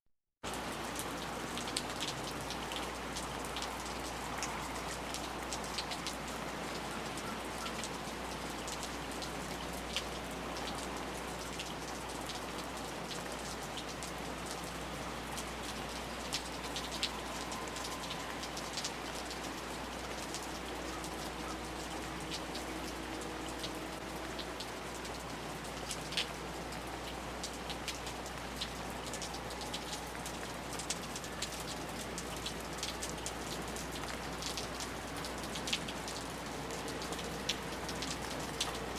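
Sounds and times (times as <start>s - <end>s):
rain falling: 0.4s - 38.9s.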